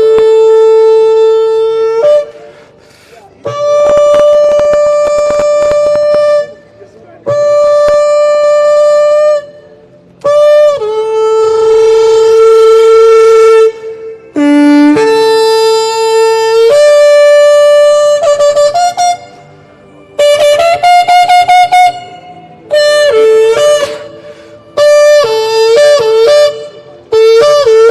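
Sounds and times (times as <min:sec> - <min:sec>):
shofar blasts: 0:00.0 - 0:02.5, 0:03.4 - 0:27.9.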